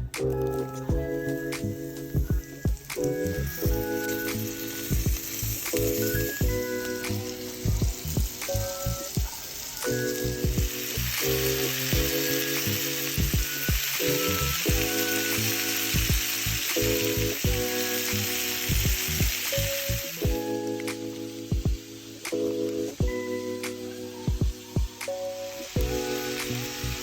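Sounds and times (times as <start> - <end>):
background music with beat: 0.0 - 27.0
food sizzling in a pan: 0.3 - 27.0.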